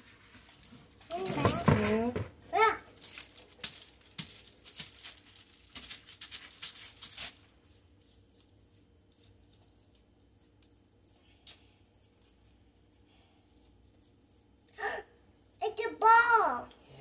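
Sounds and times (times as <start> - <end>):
rustling scraping handling: 0.0 - 16.6.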